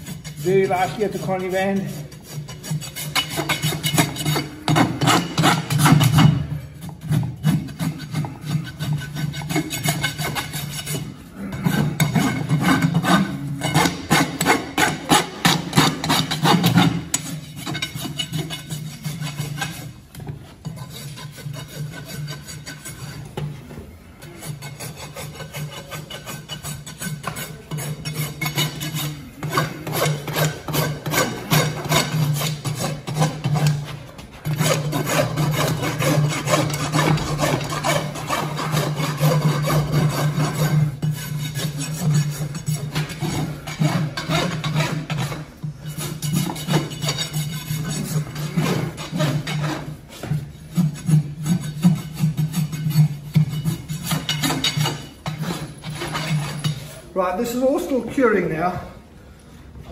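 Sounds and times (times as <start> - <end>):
rasp filing a hoof cast: 0.0 - 58.0.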